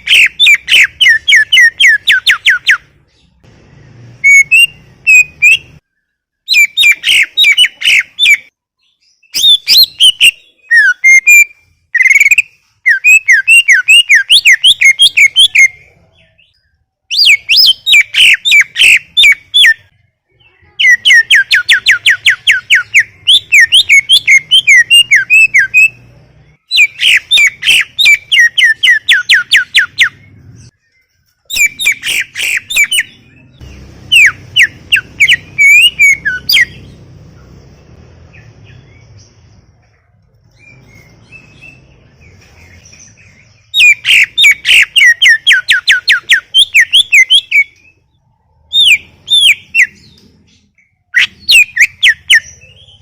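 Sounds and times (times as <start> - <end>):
leafbird singing: 0.0 - 53.0.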